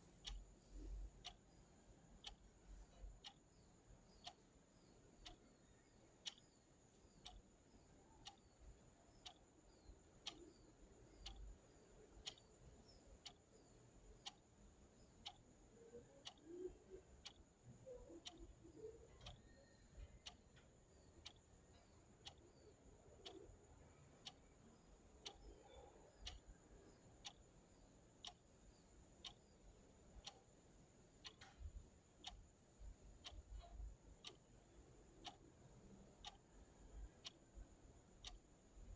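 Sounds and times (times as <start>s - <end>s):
clock ticking softly: 0.0s - 38.9s.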